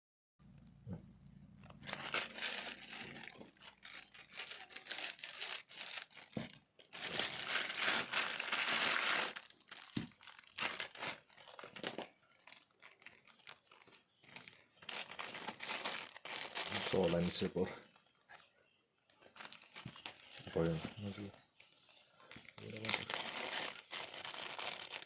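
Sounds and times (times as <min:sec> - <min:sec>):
packaging crinkling and tearing: 0:01.6 - 0:17.5, 0:19.3 - 0:25.0.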